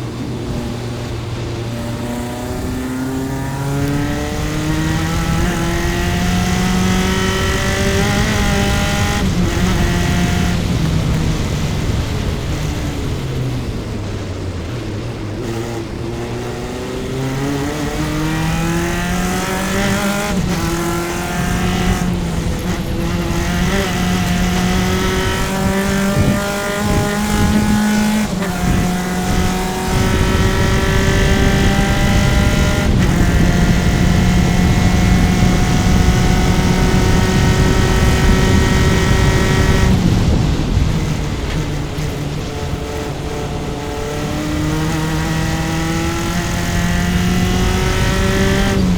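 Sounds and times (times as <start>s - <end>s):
race car engine with upshifts: 0.0s - 48.9s.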